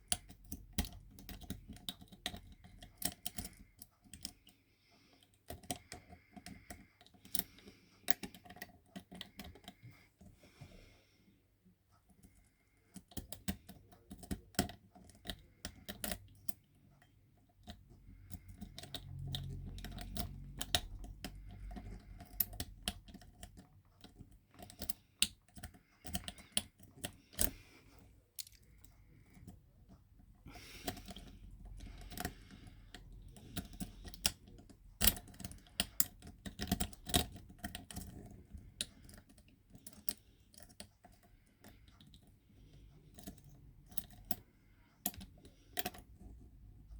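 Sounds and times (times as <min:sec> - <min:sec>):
lock pick clicking and scraping: 0:00.0 - 0:04.6, 0:05.2 - 0:10.3, 0:12.0 - 0:46.9.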